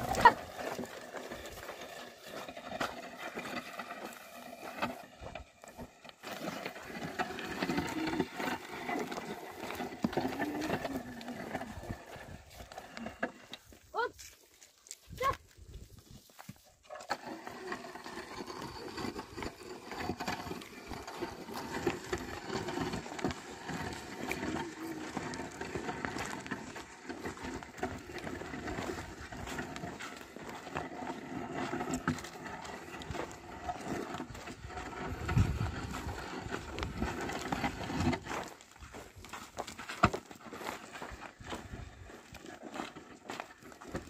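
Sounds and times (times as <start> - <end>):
hooves on stony soil: 0.0 - 44.0
plough scraping over ground: 0.0 - 44.0.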